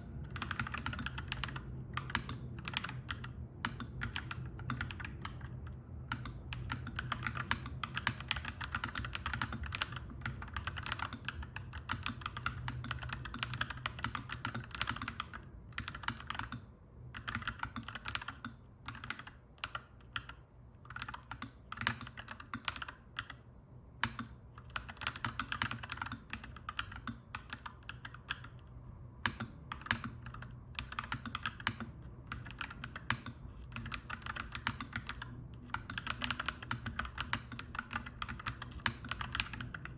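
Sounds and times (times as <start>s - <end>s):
mechanical keyboard typing: 0.0s - 23.4s, 24.0s - 39.9s.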